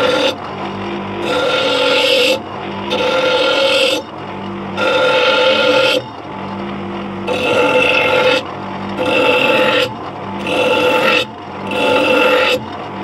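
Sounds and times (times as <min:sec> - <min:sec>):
bench grinder motor humming: 0:00.0 - 0:13.0
metal grinding scrape: 0:00.0 - 0:13.0.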